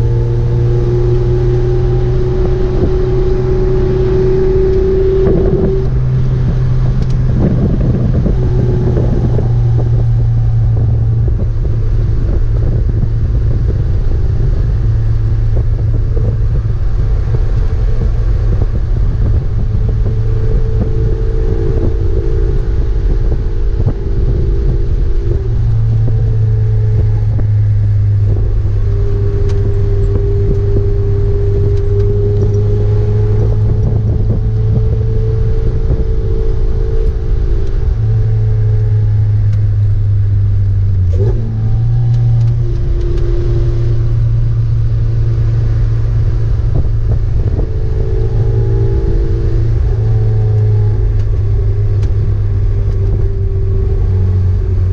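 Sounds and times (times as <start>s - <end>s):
car engine running hard: 0.0s - 54.9s
road and wind noise: 0.0s - 54.9s.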